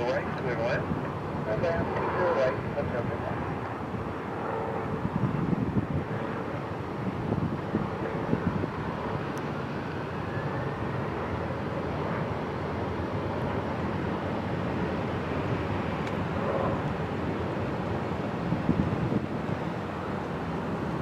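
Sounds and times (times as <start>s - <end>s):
aircraft engine noise: 0.0s - 21.0s.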